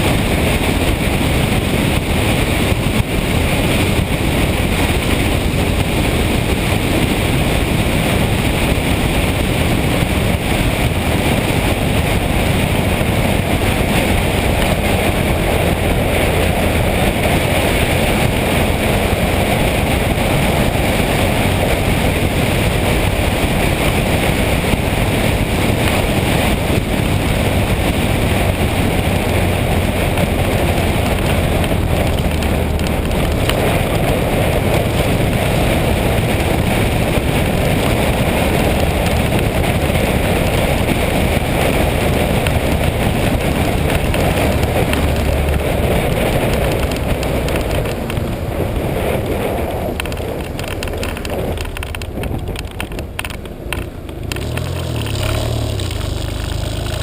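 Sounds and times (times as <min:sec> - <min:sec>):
motorcycle engine: 0:00.0 - 0:57.0
road noise: 0:00.0 - 0:57.0
wind rush over microphone: 0:00.0 - 0:57.0.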